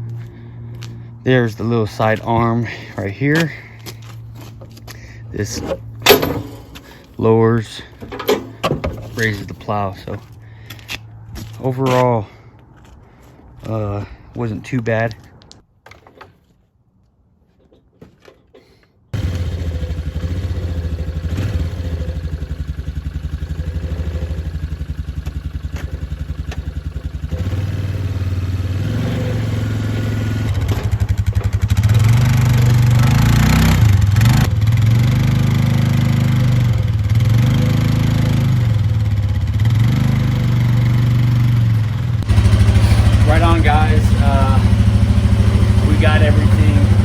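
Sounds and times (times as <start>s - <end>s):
atv engine idling and revving: 0.0s - 12.3s, 19.2s - 47.0s.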